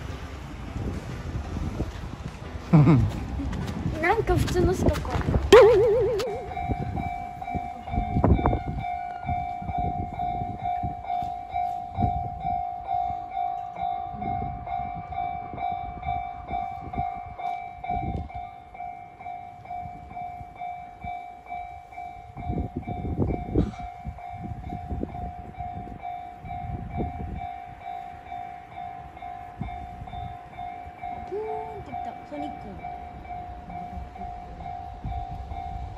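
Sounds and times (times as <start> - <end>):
wind buffeting microphone: 0.0 - 35.9
level crossing bell ringing: 5.5 - 35.9.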